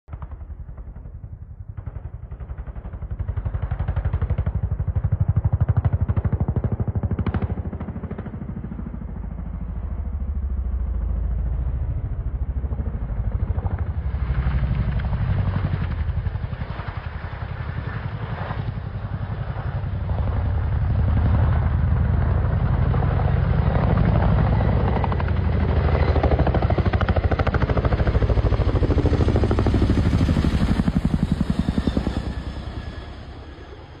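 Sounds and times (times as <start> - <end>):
helicopter engine noise: 0.1 - 34.0
helicopter rotor chopping: 0.1 - 34.0.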